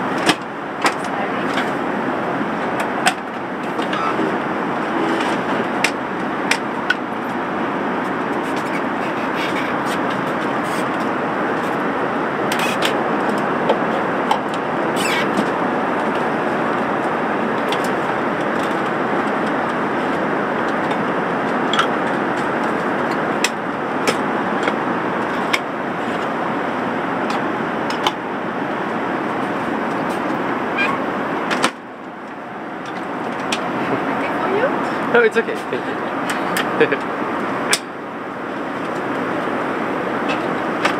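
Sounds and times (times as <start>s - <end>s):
airliner cabin noise: 0.0s - 40.9s.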